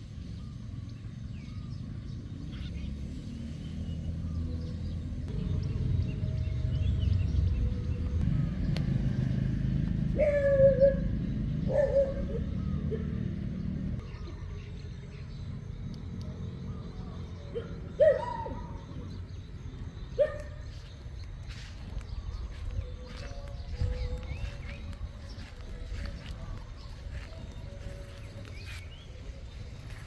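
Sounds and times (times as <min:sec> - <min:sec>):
low rumble: 0:04.2 - 0:17.2, 0:18.7 - 0:30.0.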